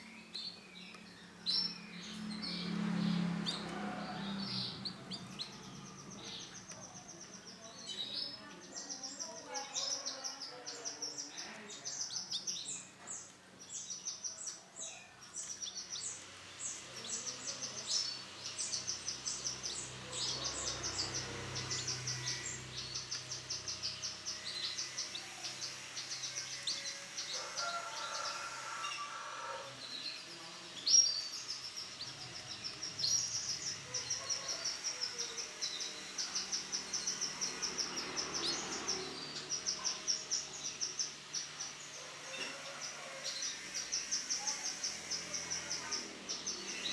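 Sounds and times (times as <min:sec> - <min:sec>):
canary singing chirps and trills: 0:00.0 - 0:46.9.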